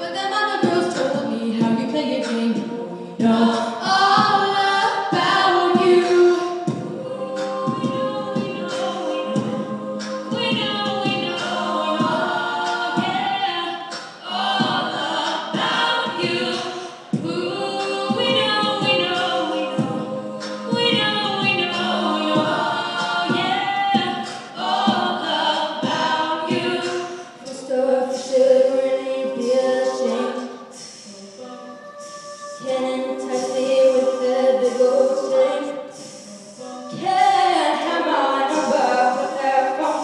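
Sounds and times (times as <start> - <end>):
female a cappella group singing: 0.0 - 40.0.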